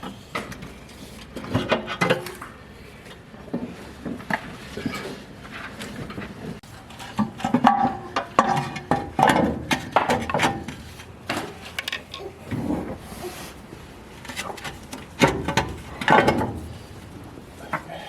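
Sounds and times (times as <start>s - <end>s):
tools and metal parts clanking: 0.0s - 13.0s, 14.2s - 17.9s.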